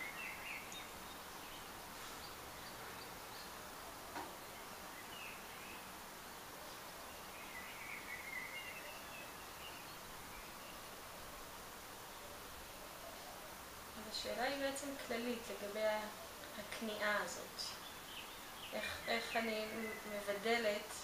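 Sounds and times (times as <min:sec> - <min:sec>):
faint bird chirps: 0:00.0 - 0:21.0
room hiss: 0:00.0 - 0:21.0.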